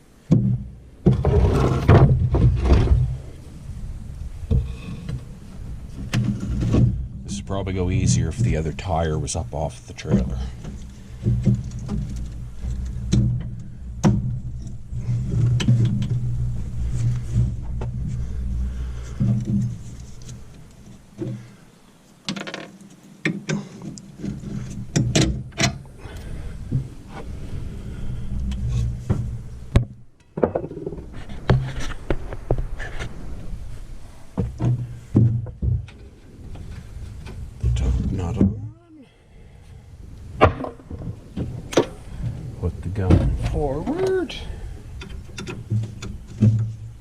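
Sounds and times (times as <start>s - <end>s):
low steady hum: 0.0s - 22.2s, 22.8s - 47.0s.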